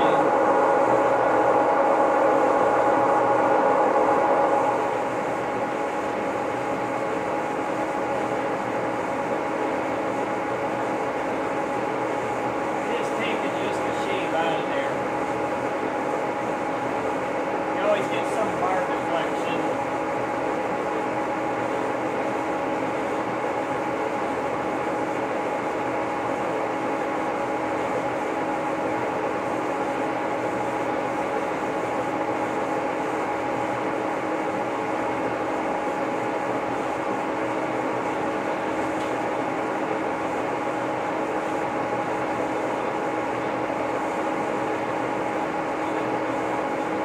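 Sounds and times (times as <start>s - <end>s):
boring mill humming: 0.0s - 47.0s.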